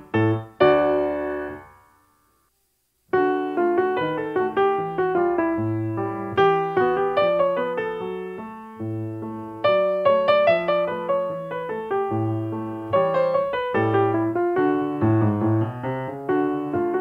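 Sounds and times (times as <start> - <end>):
piano notes: 0.0 - 2.3, 3.1 - 17.0.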